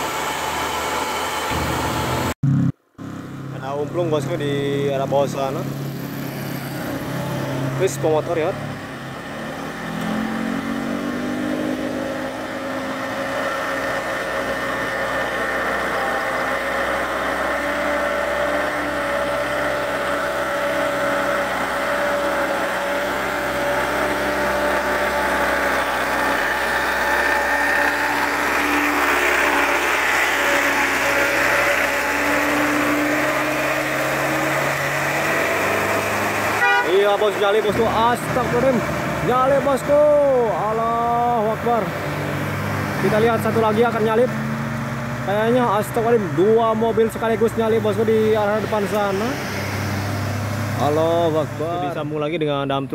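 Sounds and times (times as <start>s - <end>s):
vehicle engine climbing under load: 0.0s - 52.9s.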